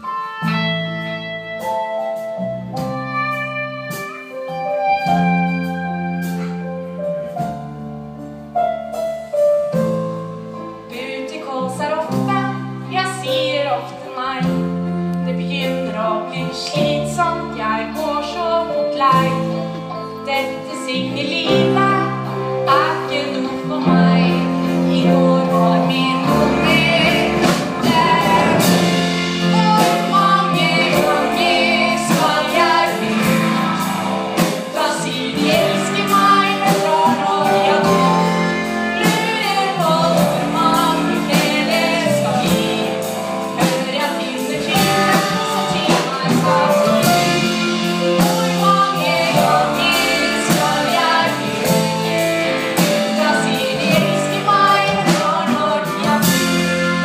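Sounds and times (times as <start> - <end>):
live band playing: 0.0 - 57.0
woman singing: 10.9 - 57.0.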